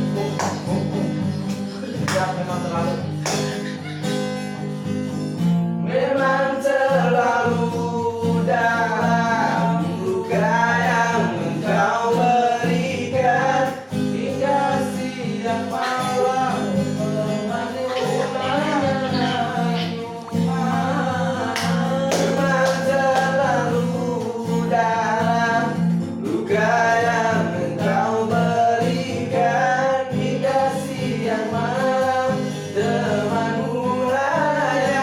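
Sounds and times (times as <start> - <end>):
guitar music with bending melody: 0.0 - 35.0.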